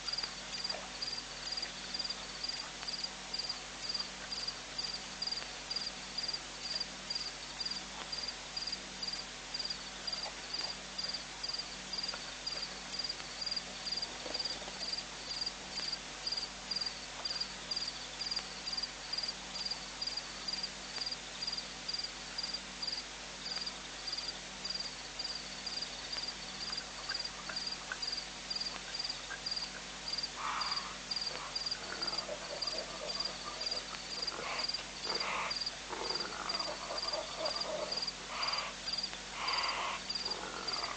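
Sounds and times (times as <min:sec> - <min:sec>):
cricket chirping: 0:00.1 - 0:40.9.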